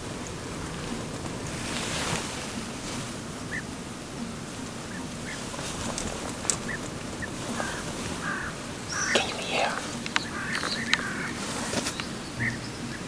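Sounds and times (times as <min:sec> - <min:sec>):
birds chirping calls: 0:00.0 - 0:13.0
outdoor hiss: 0:00.0 - 0:13.0.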